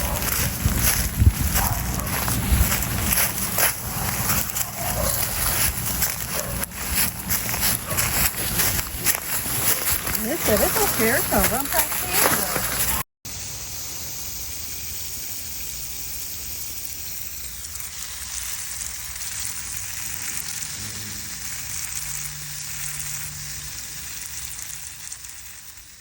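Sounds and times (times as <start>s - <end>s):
steady outdoor hissing: 0.0s - 26.0s.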